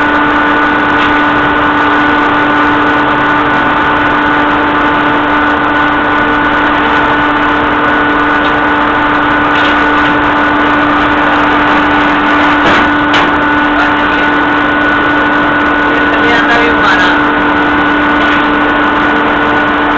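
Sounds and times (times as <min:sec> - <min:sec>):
machine hum: 0:00.0 - 0:19.9.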